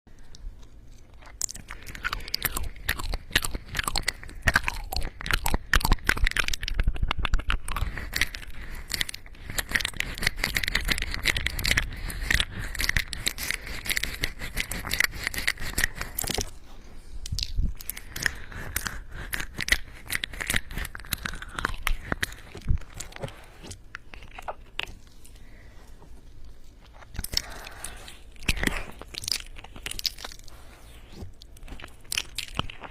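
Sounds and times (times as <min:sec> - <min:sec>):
cat crunching food: 0:00.3 - 0:16.6, 0:17.2 - 0:25.7, 0:26.4 - 0:30.6, 0:31.4 - 0:32.9.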